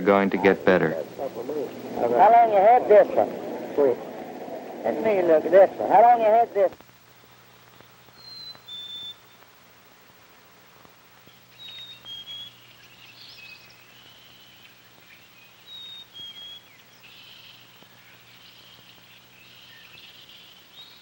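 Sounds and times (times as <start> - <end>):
birds twittering: 0.0 - 9.5, 11.2 - 21.0
songbirds whistling: 0.4 - 6.5, 7.2 - 9.4, 11.3 - 21.0.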